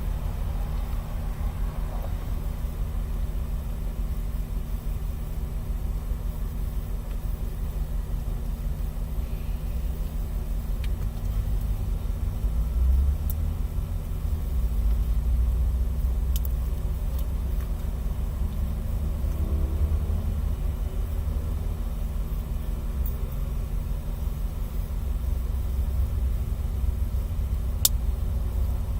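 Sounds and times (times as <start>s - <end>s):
car engine rumble inside cabin: 0.0s - 28.9s.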